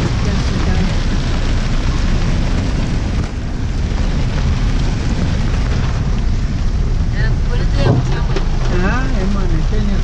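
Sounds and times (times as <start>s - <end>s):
heavy rain on vehicle roof: 0.0s - 10.0s
road noise: 0.0s - 10.0s
vehicle engine: 0.0s - 10.0s.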